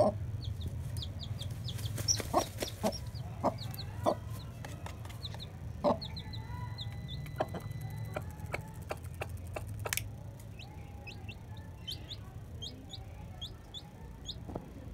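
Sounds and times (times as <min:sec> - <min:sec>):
hen clucking: 0:00.0 - 0:14.6
chick peeping: 0:00.0 - 0:14.7
steady low hum: 0:00.0 - 0:14.9.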